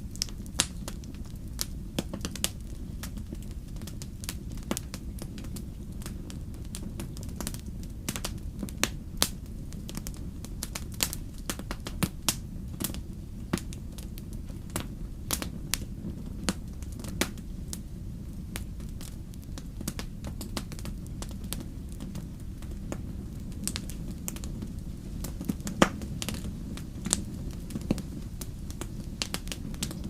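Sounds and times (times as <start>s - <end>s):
low fire rumble: 0.0s - 30.0s
wood fire crackling: 0.0s - 30.0s.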